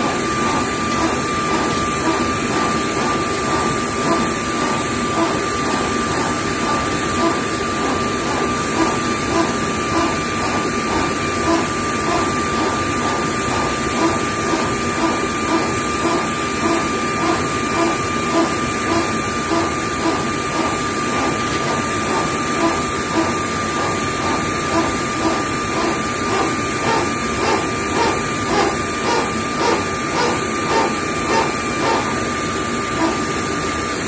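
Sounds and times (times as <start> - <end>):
soft regular pulsing: 0.0 - 33.7
machine running with high whine: 0.0 - 34.0.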